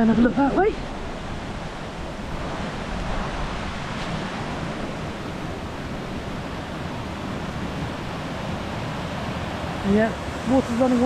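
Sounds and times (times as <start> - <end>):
fast-flowing river rushing: 0.0 - 11.0.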